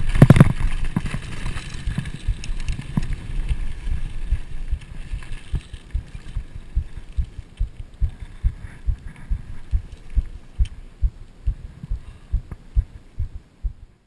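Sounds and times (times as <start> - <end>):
muffled rhythmic camera thumps: 0.0 - 14.0.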